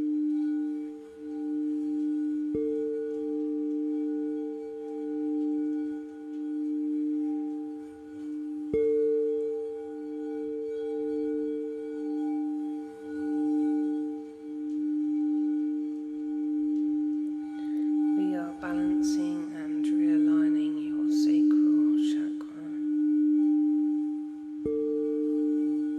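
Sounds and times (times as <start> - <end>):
singing bowl ringing: 0.0 - 25.9.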